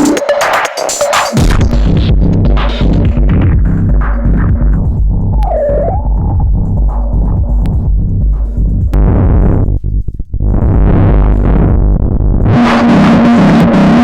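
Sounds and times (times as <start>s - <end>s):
synthesizer with filter sweeps: 1.4s - 9.8s, 10.5s - 14.0s
pulsing bass pattern: 1.4s - 14.0s.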